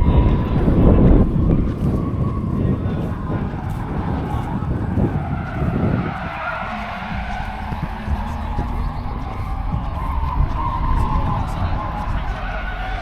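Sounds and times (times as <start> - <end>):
tyres skidding squeal: 0.0 - 13.0.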